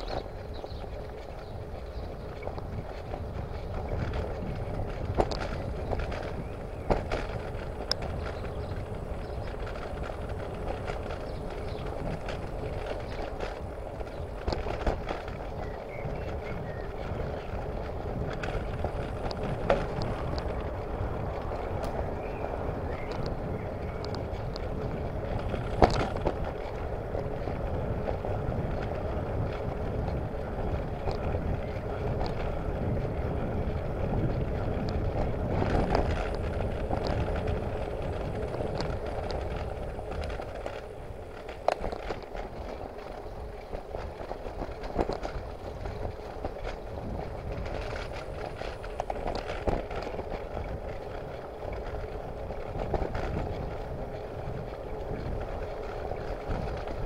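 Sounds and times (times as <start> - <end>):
bicycle tyre noise: 0.0 - 57.0
bike rattling over bumps: 0.0 - 57.0.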